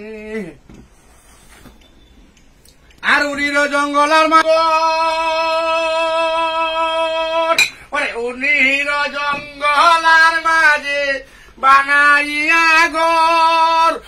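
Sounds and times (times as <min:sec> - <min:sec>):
man singing: 0:00.0 - 0:00.6, 0:03.0 - 0:14.0.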